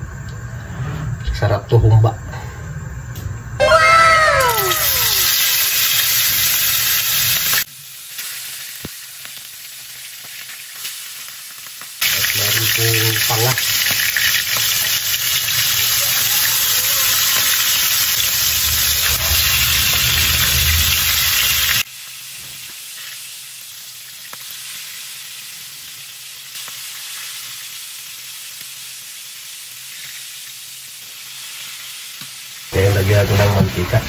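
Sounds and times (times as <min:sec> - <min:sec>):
fish sizzling in frying pan: 0:04.5 - 0:32.8.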